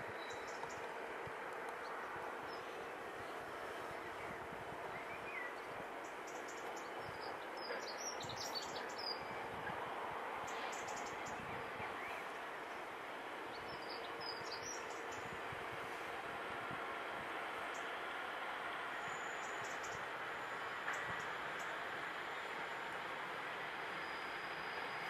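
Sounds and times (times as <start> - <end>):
diesel locomotive engine rumbling: 0.0 - 25.0.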